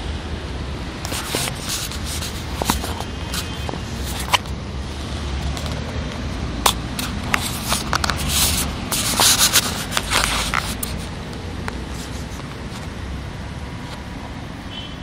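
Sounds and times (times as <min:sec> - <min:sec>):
rubbing on microphone: 0:01.0 - 0:13.1.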